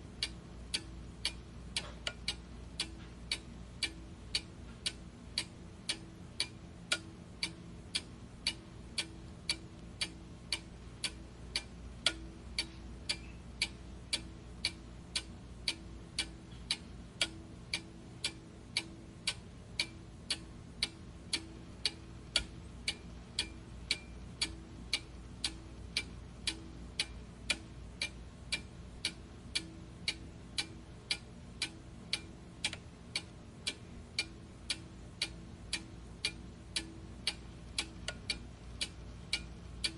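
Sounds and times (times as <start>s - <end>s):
faint low hum: 0.0s - 39.9s
steady ticking: 0.0s - 39.9s.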